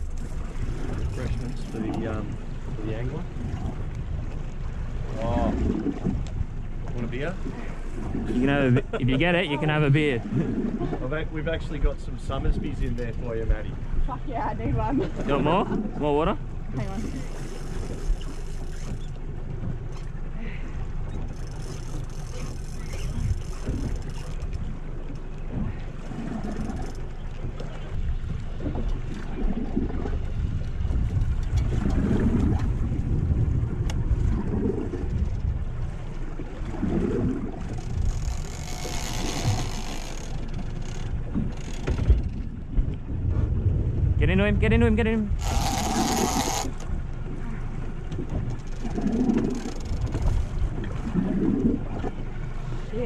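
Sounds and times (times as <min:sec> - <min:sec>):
outboard motor running: 0:00.0 - 0:53.0
water washing around boat: 0:00.0 - 0:53.0
wind rumbling on microphone: 0:00.0 - 0:53.0.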